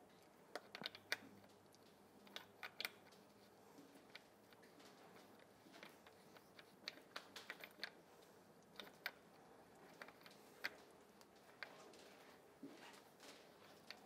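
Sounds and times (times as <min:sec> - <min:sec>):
light clicks and taps: 0:00.0 - 0:14.0.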